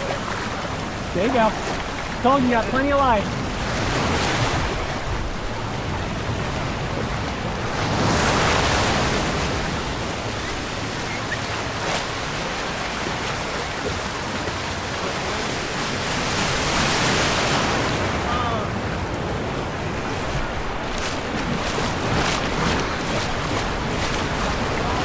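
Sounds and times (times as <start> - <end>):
ocean surf washing onto beach: 0.0 - 25.0.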